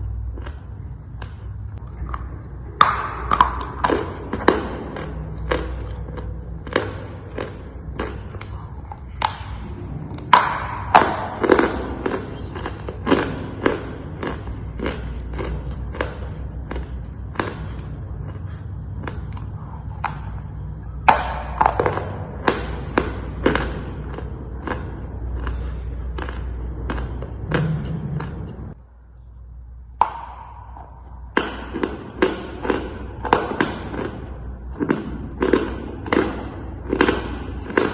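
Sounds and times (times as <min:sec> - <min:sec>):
chalk crunching while chewed: 0:00.0 - 0:20.8, 0:21.4 - 0:29.0, 0:30.8 - 0:37.9
low hum: 0:00.0 - 0:37.9.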